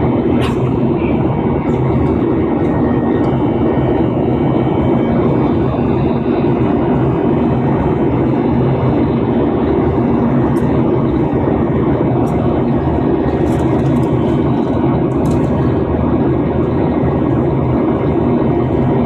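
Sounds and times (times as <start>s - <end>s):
jet engines from inside cabin: 0.0s - 19.0s.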